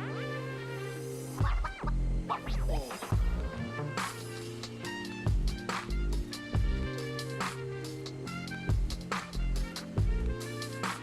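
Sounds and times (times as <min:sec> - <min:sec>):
background music with drums: 0:01.3 - 0:01.8, 0:02.6 - 0:11.0.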